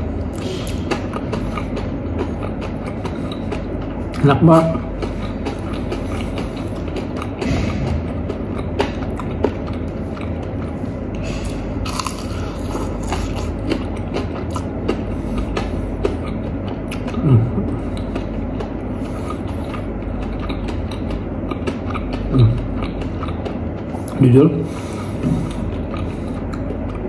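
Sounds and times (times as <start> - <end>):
crunchy chewing: 0.0 - 27.0
steady low hum: 0.0 - 27.0.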